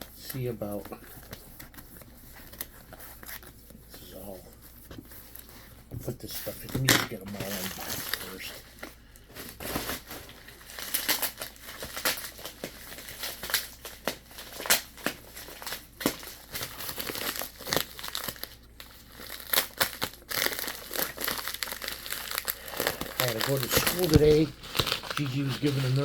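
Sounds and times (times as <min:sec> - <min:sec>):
packing material crinkling: 0:00.0 - 0:26.0.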